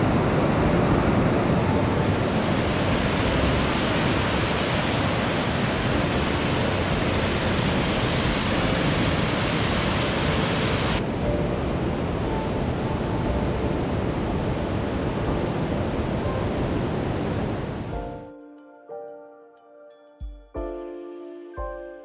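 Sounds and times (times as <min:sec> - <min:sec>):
fast-flowing water rushing: 0:00.0 - 0:17.9.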